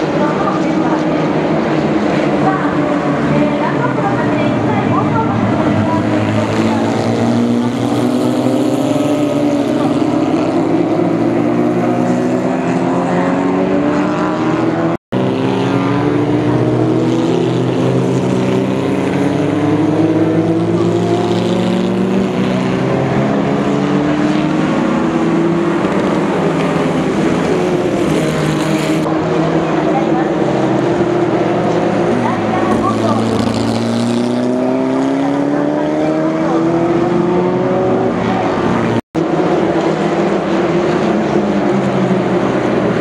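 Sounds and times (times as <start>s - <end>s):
race cars accelerating past: 0.0s - 43.0s.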